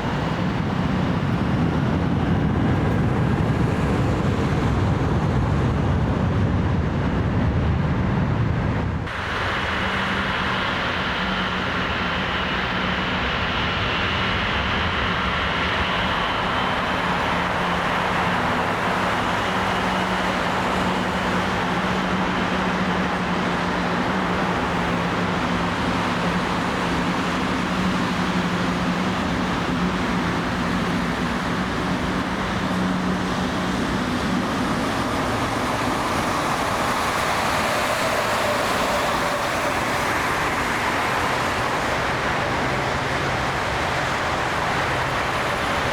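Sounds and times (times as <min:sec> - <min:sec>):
engines rumbling: 0:00.0 - 0:45.9.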